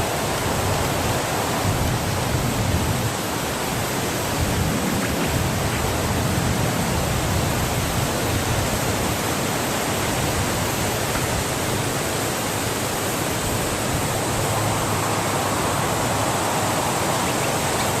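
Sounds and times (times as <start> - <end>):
steady wind blowing: 0.0 - 18.0.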